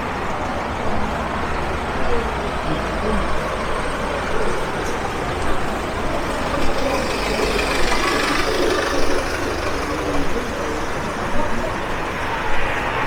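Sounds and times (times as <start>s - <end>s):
faint voices of passers-by: 0.0s - 13.0s
rumble of passing cars: 0.0s - 13.0s.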